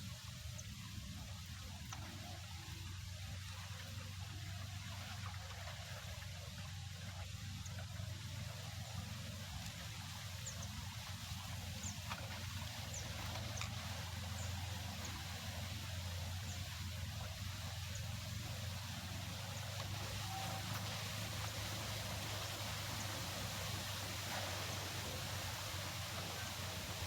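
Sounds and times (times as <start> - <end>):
steady wind: 0.0 - 27.0
trickling water: 0.0 - 27.0.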